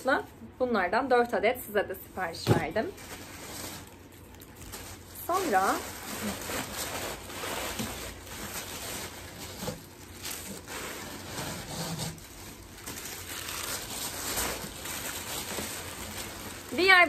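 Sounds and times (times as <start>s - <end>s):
packing paper rustling and crinkling: 2.2s - 17.0s.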